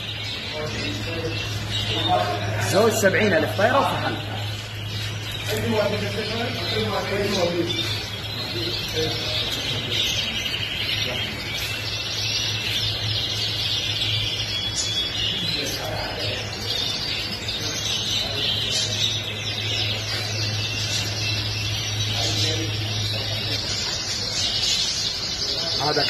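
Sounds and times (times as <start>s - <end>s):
canaries singing: 0.0s - 26.0s
steady low hum: 0.0s - 26.0s.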